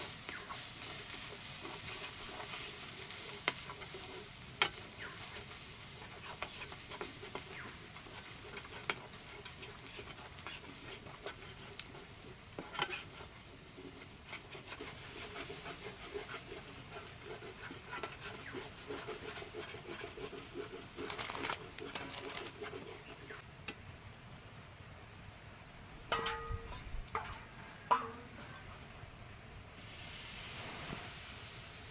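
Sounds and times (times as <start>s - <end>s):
utensil scraping a frying pan: 0.0s - 23.4s, 26.1s - 28.9s
faint sizzle: 0.0s - 31.9s.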